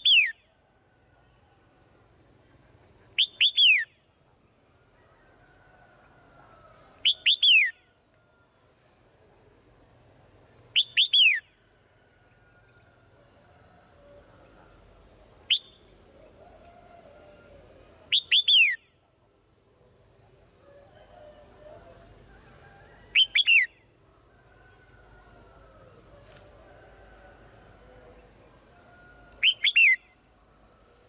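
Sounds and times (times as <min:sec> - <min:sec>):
faint high hiss: 0:00.0 - 0:31.0.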